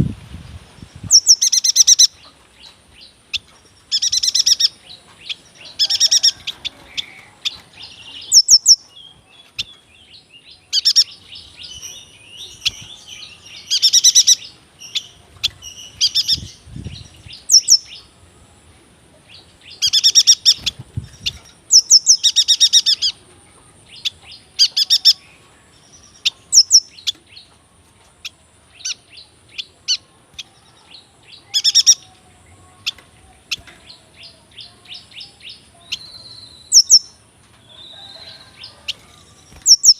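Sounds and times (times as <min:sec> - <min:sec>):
bird singing fast chirps and trills: 0:00.4 - 0:18.2, 0:19.3 - 0:27.5, 0:28.2 - 0:39.9.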